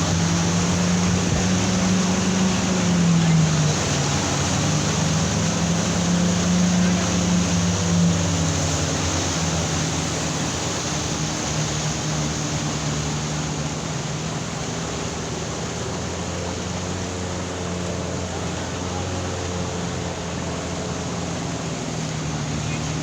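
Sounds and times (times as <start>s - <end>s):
engine hum: 0.0s - 23.0s.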